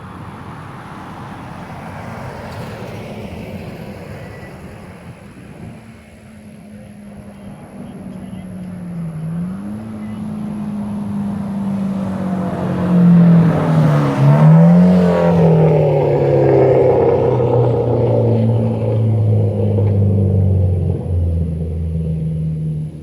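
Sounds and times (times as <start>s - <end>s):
turbocharged car driving by: 0.0s - 23.0s.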